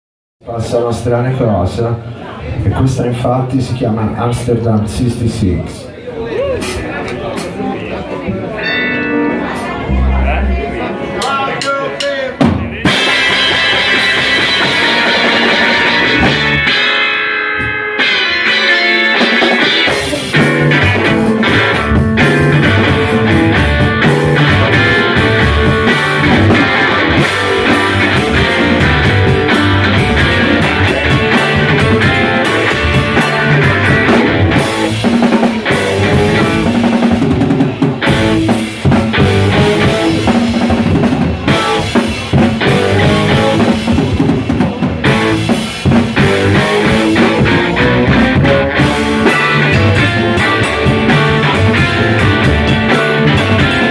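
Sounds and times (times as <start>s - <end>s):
electric guitars: 8.1s - 53.9s
drum kit beat: 8.9s - 53.9s.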